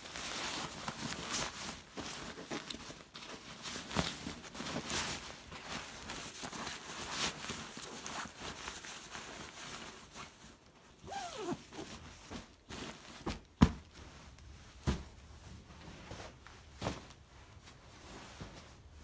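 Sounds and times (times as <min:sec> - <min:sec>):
satin fabric rustling: 0:00.0 - 0:19.0.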